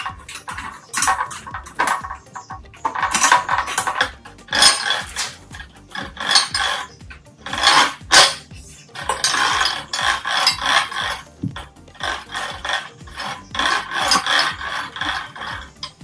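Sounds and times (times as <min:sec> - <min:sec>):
rollers rattling on metal rail: 0:00.0 - 0:16.0.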